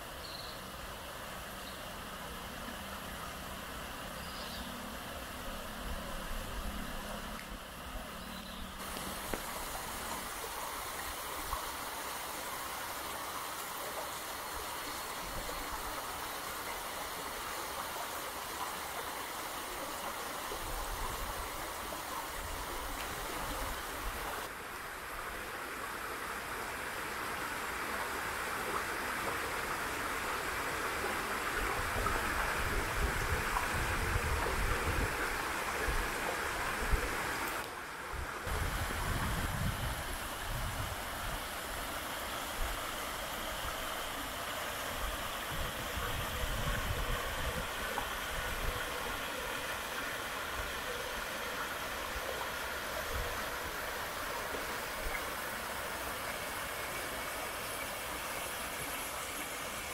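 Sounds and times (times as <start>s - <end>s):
stream and waterfall rushing: 0.0s - 59.9s.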